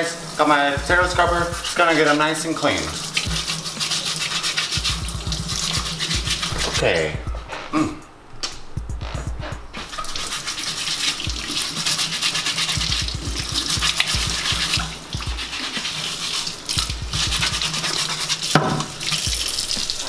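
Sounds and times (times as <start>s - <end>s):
faucet running into a sink: 0.0s - 6.6s, 9.9s - 20.0s
scrubbing lemons under water: 0.9s - 6.8s, 9.8s - 20.0s.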